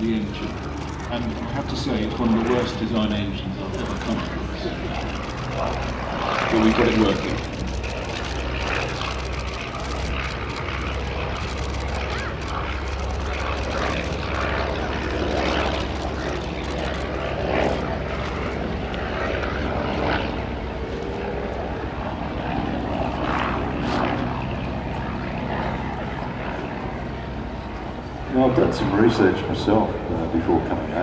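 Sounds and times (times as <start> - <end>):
biplane engine and propeller: 0.0 - 31.0.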